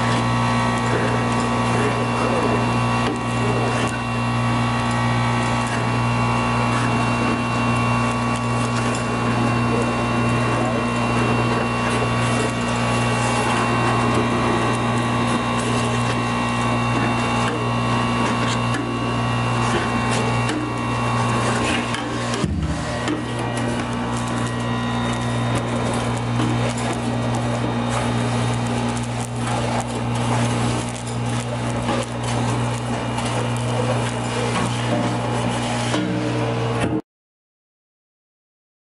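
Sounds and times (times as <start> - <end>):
industrial vacuum running: 0.0 - 37.0.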